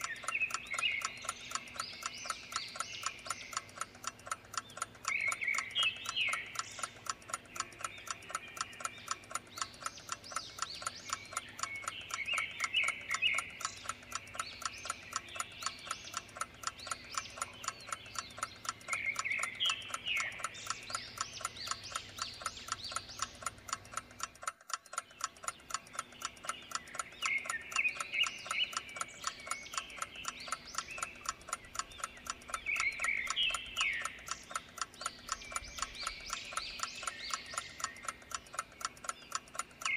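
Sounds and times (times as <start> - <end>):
chirping animal calls: 0.0 - 39.9
clock ticking: 0.0 - 39.9.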